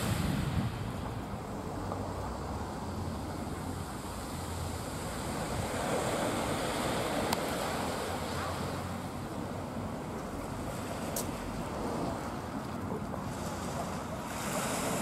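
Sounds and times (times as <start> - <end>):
surf hissing on beach: 0.0 - 15.0.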